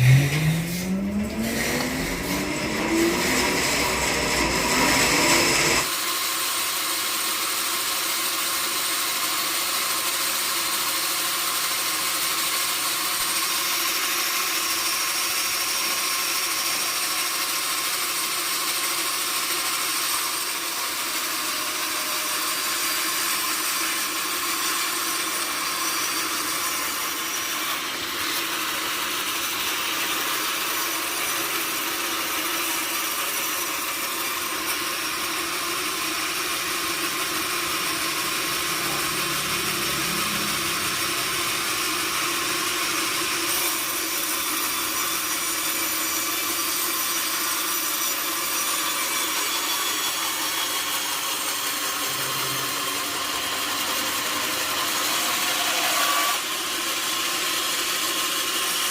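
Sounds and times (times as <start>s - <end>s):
saw cutting through log: 0.0s - 58.9s.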